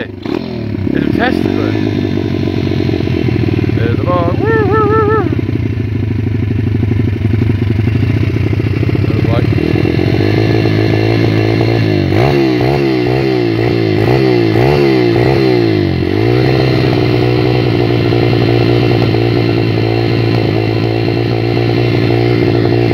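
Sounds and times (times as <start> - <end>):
small motorcycle engine idling: 0.0 - 22.9.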